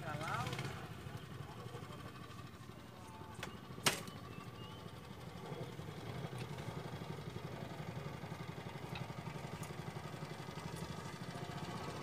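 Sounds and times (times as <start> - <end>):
small engine droning: 0.0 - 12.0.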